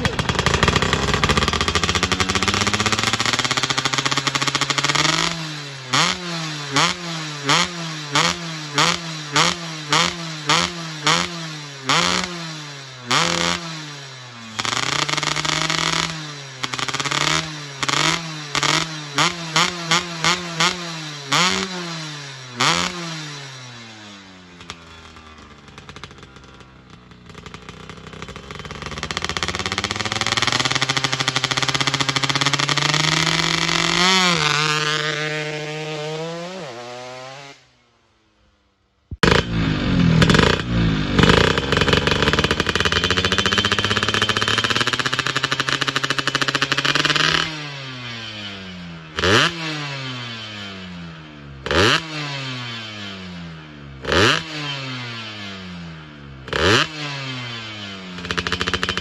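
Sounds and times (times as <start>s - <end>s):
moped engine revving: 0.0s - 38.1s, 39.1s - 59.0s.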